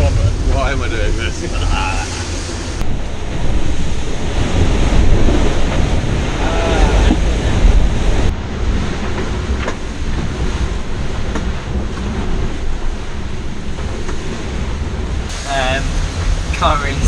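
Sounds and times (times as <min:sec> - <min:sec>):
water rushing past hull: 0:00.0 - 0:17.0.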